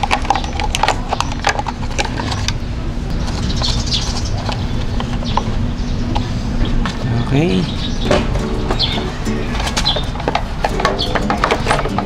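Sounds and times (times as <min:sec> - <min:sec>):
bird chirping: 0:00.1 - 0:12.0.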